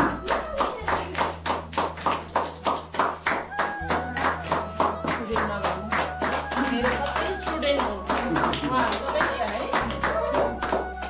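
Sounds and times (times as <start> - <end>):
people clapping in rhythm: 0.0 - 11.0.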